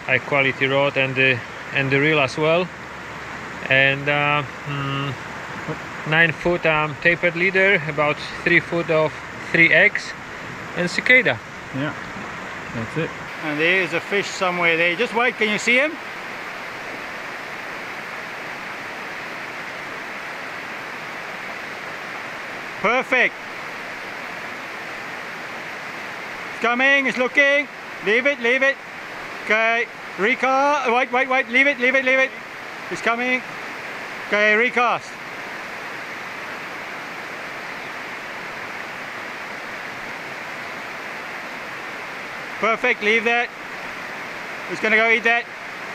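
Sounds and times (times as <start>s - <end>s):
river water rushing over boulders: 0.0s - 45.9s.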